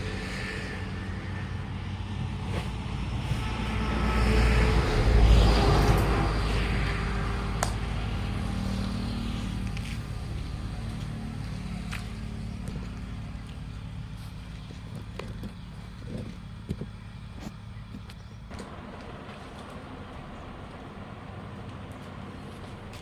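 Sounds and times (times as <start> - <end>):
steady low hum: 0.0 - 23.0
vehicle engine running: 0.0 - 23.0.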